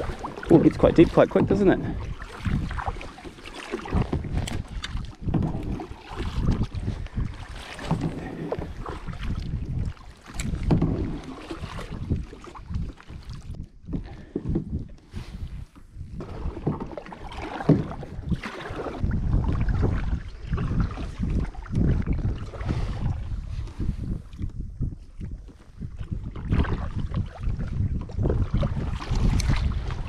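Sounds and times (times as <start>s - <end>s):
paddles splashing in water: 0.0s - 24.1s, 25.4s - 30.0s
wind rumble on microphone: 0.0s - 30.0s.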